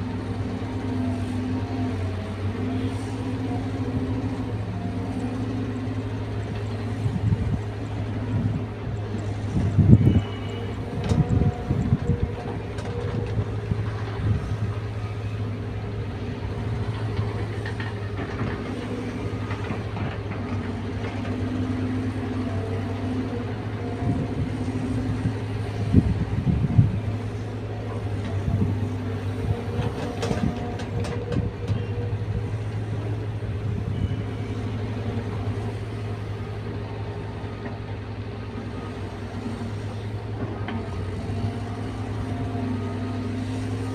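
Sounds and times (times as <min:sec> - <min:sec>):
diesel excavator engine running: 0:00.0 - 0:43.9.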